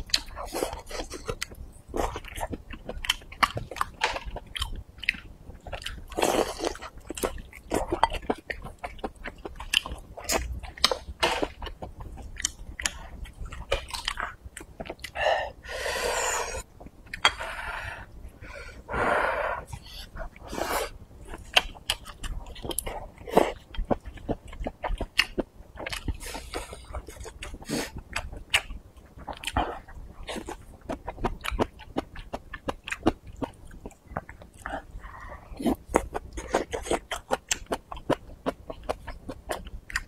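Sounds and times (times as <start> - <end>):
chewing and biting food: 0.0 - 15.2, 19.7 - 40.0.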